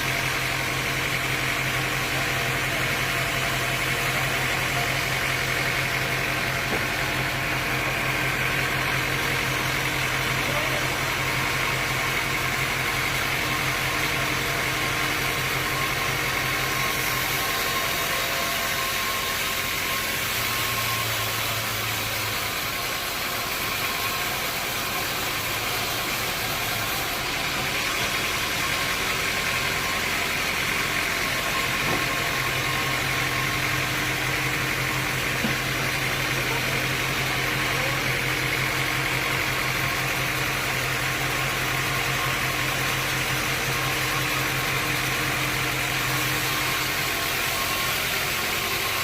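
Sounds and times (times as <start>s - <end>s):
sawmill machinery hum: 0.0s - 49.0s.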